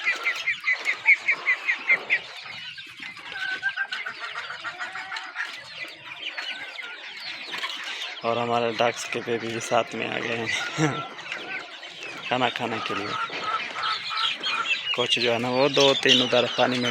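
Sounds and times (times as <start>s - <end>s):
chickens clucking: 0.0s - 16.9s
rapid high chicken calls: 0.0s - 16.9s.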